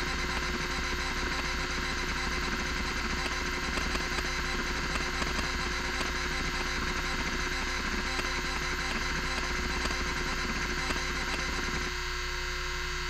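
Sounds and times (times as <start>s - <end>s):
hard drive head chattering: 0.0s - 11.9s
hard drive motor whine: 0.0s - 13.0s.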